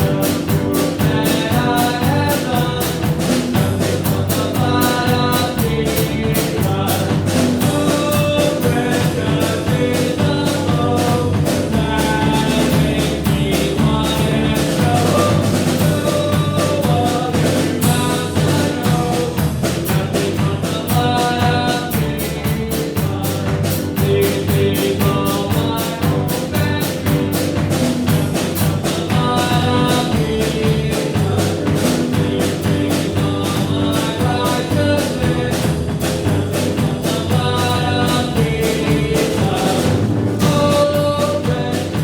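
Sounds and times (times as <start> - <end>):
drum kit beat: 0.0 - 42.0
upbeat church band music: 0.0 - 42.0.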